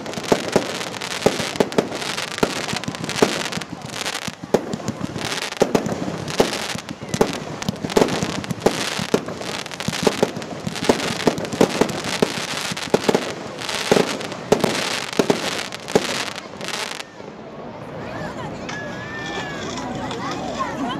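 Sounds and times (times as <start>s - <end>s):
fireworks hiss: 0.0s - 17.2s
fireworks bangs: 0.0s - 17.5s.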